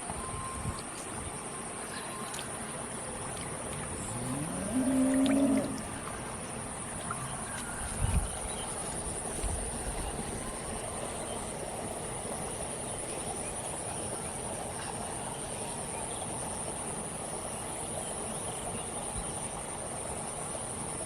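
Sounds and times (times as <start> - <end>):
insects trilling: 0.0 - 21.0
low background hum: 0.0 - 21.0.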